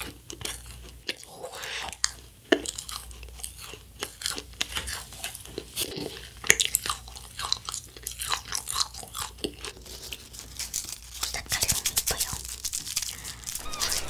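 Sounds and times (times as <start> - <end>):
crunchy candy chewing: 0.0 - 14.0.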